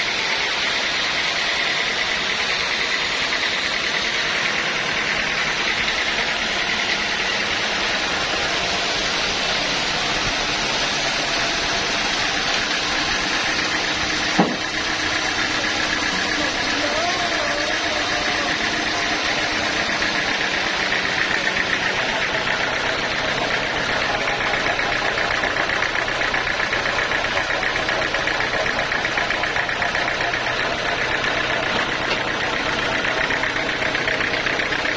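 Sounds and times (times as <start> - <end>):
sawmill saw and engine running: 0.0 - 34.9.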